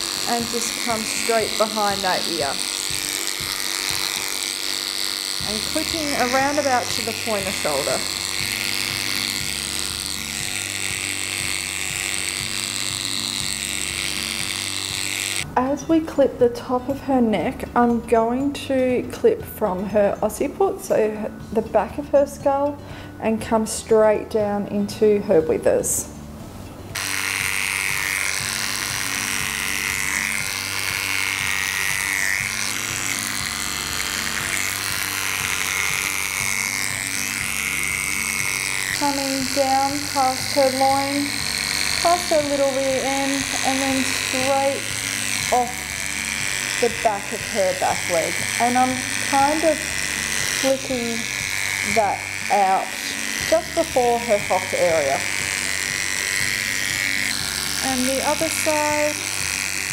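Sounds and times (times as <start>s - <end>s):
cordless pet clipper running: 0.0s - 15.5s, 26.9s - 59.9s
background music: 0.0s - 59.9s.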